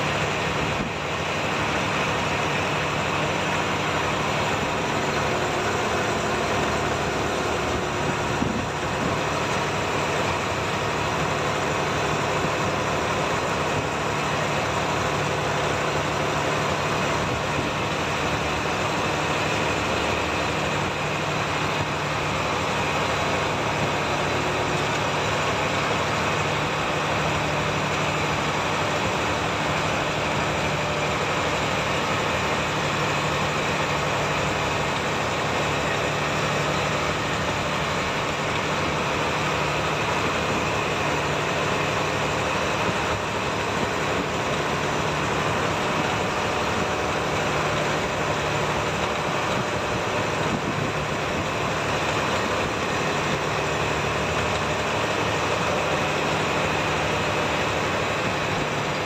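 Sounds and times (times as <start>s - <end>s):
boat engine droning: 0.0s - 59.0s
water rushing around hull: 0.0s - 59.0s.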